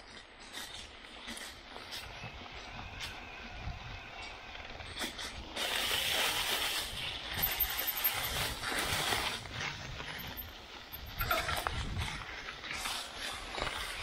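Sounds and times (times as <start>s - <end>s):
bicycle rushing noise: 0.0s - 14.0s.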